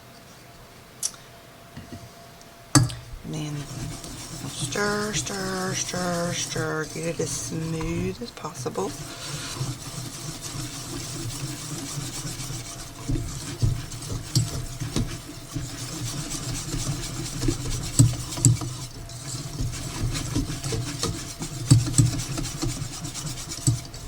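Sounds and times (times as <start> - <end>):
spoon scraping thick frosting: 3.3 - 24.0.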